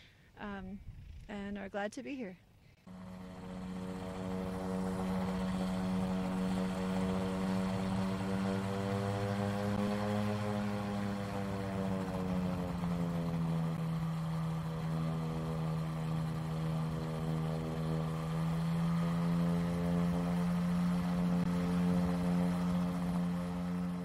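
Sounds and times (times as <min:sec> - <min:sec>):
propeller aircraft engine running: 0:00.0 - 0:24.0.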